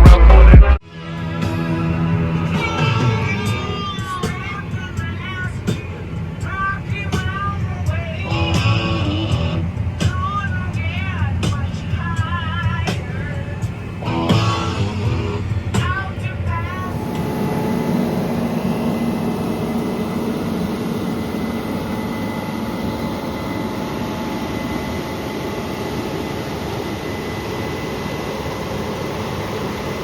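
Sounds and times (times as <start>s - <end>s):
farm machinery droning: 0.9s - 30.0s.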